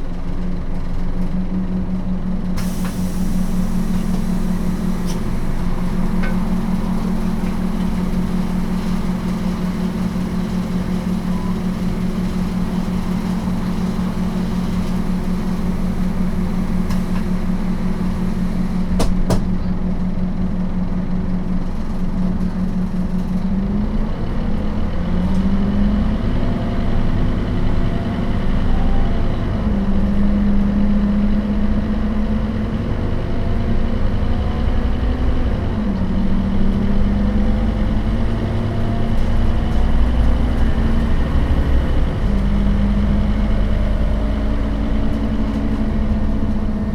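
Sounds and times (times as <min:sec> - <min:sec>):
bus diesel engine: 0:00.0 - 0:46.9.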